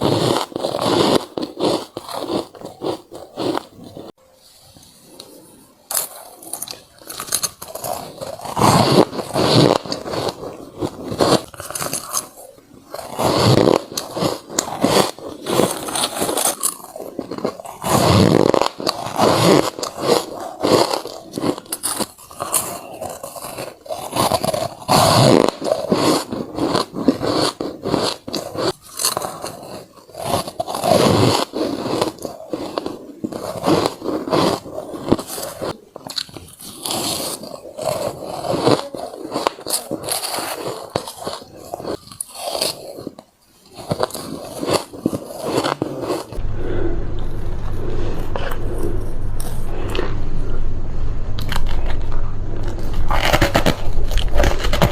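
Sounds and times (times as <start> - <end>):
ice being chewed: 0.0 - 4.1, 5.2 - 46.4.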